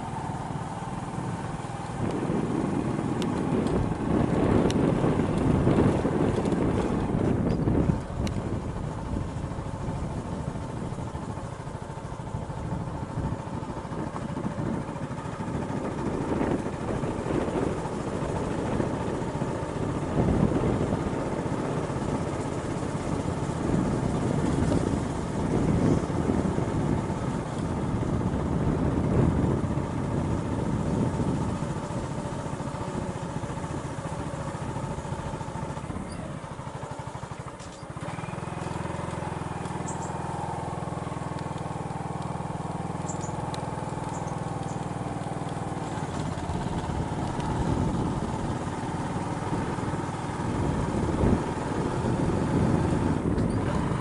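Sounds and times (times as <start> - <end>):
vehicle engine running: 0.0 - 54.0
wind buffeting microphone: 0.0 - 54.0.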